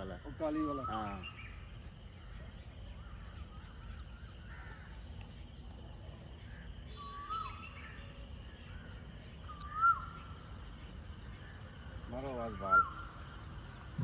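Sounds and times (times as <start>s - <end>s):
bird calls: 0.0s - 14.0s.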